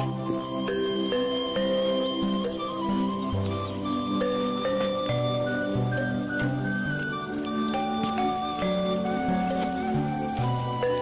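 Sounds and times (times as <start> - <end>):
layered held notes music: 0.0 - 11.0.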